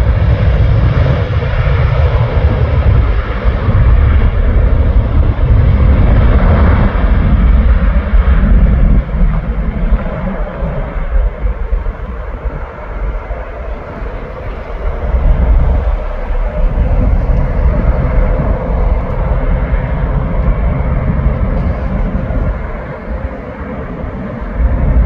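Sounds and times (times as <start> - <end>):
jet engines taking off: 0.0 - 25.0.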